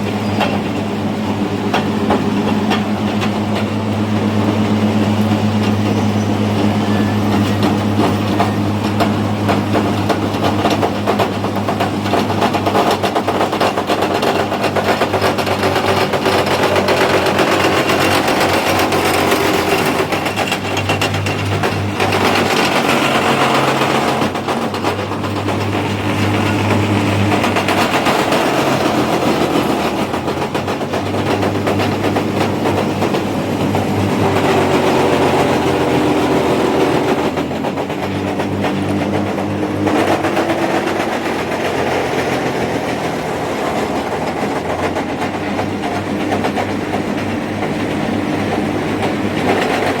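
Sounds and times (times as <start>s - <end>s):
wood chipper running: 0.0s - 50.0s.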